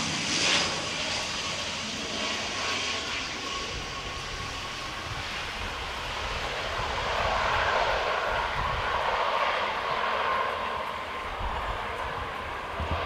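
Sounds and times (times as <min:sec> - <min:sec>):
steady engine whine: 0:00.0 - 0:13.0
turboprop engines and propellers running: 0:00.0 - 0:13.0.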